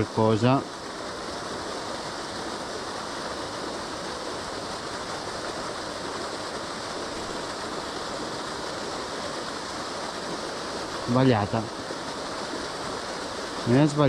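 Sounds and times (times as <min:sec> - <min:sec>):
water jet rushing and splashing: 0:00.0 - 0:14.0.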